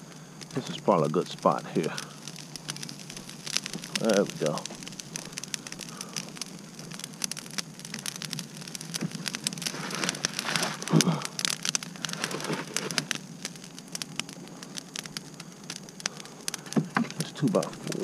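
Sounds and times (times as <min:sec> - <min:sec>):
brush fire crackling: 0:00.0 - 0:18.0.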